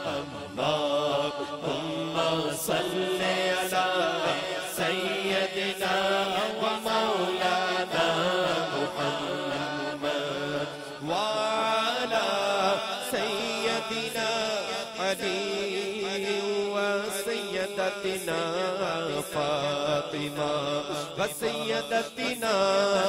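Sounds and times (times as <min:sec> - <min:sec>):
man chanting through microphone: 0:00.0 - 0:23.0.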